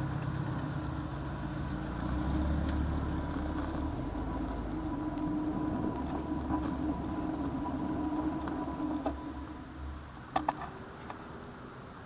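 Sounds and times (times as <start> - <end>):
constant hum: 0.0 - 12.0
tyre road and wind noise: 0.0 - 12.0.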